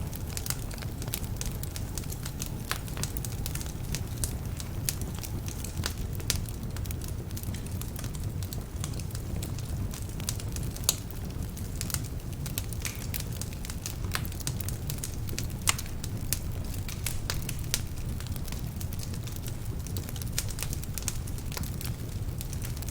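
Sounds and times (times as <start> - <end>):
fire low rumble: 0.0 - 22.9
logs crackling and popping: 0.0 - 22.9.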